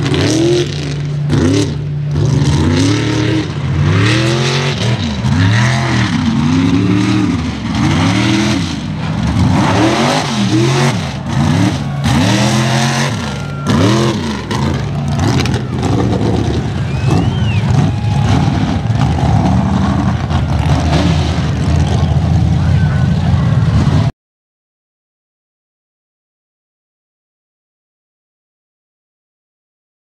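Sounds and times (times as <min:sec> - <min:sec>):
truck engine revving hard: 0:00.0 - 0:24.1.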